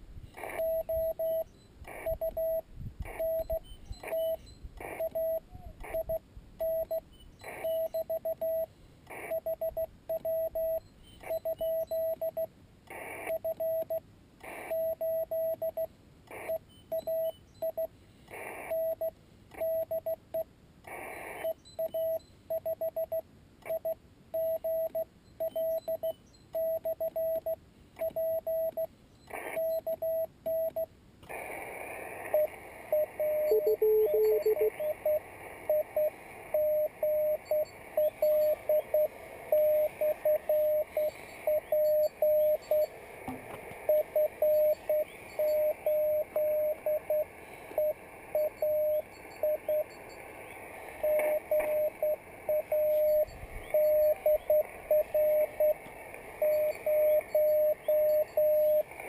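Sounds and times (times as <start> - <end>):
receiver hiss: 0.0 - 59.0
morse code beeps: 0.4 - 12.5, 13.2 - 17.9, 18.7 - 20.5, 21.4 - 30.9, 32.3 - 42.9, 43.9 - 50.2, 51.0 - 55.8, 56.4 - 58.9.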